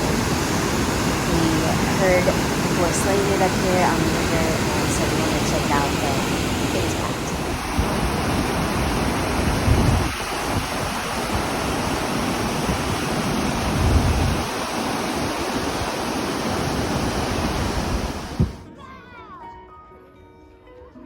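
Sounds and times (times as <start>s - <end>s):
river rushing: 0.0s - 18.7s
wind gusting on microphone: 0.0s - 18.7s.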